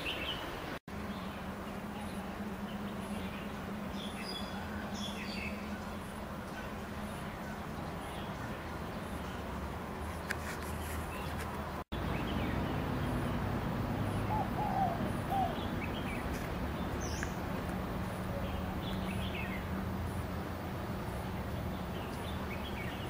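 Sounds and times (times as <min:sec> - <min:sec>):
birds chirping: 0:00.0 - 0:23.0
low background hum: 0:00.5 - 0:23.0.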